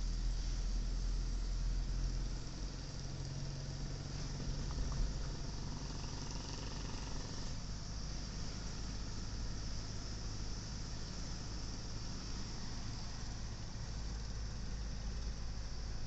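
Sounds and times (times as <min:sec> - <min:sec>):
car engine hum: 0:00.0 - 0:16.0
road and wind noise: 0:00.0 - 0:16.0.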